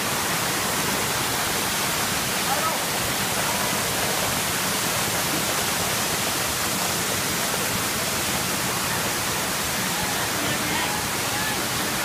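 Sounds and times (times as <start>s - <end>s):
waterfall onto rocks: 0.0s - 12.0s.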